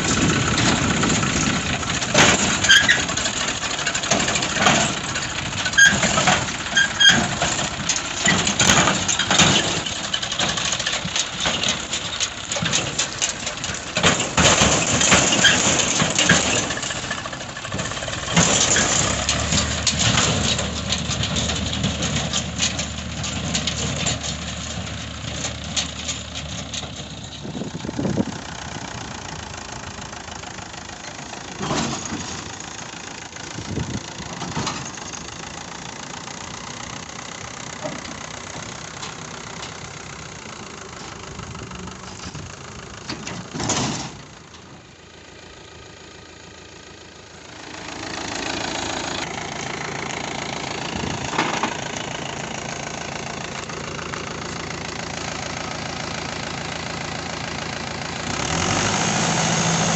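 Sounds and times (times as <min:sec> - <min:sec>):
tractor engine running: 0:00.0 - 0:59.9
trailer rattling and knocking: 0:00.0 - 0:59.9.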